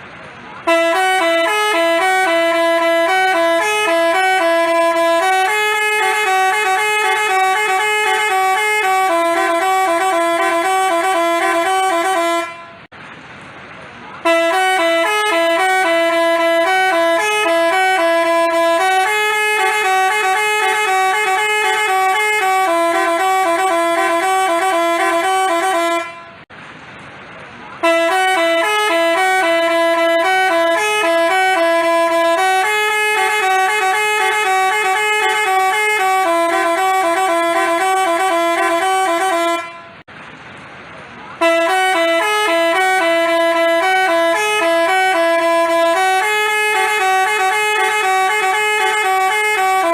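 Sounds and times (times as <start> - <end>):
multi-tone bus horn melody: 0.4 - 12.9, 14.2 - 26.5, 27.8 - 40.1, 41.4 - 49.9.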